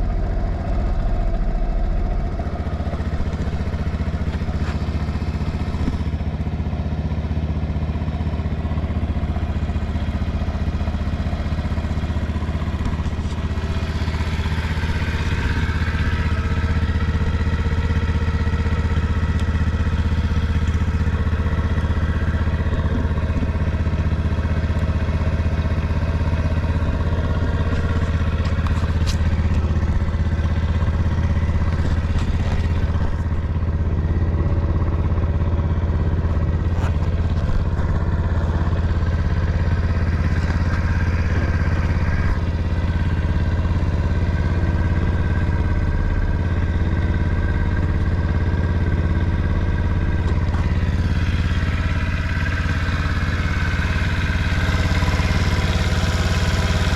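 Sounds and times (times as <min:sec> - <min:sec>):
small engine idling: 0:00.0 - 0:56.9.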